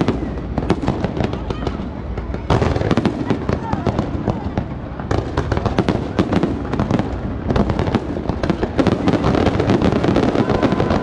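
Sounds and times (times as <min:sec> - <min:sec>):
fireworks bursts and crackles: 0:00.0 - 0:11.0.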